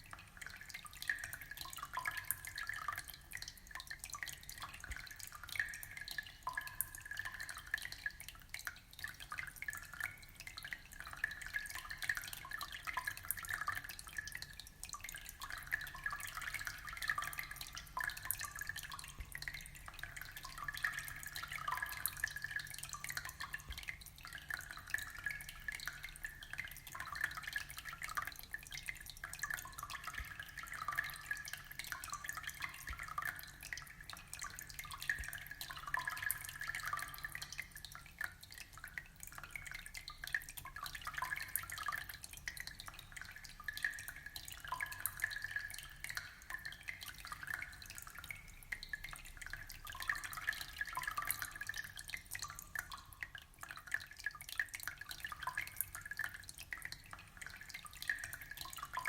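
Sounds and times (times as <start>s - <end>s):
aquarium water trickling and bubbling: 0.0s - 59.0s.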